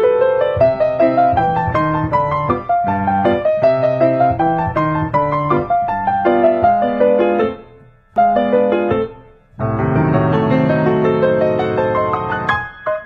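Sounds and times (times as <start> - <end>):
ragtime piano music: 0.0 - 13.0.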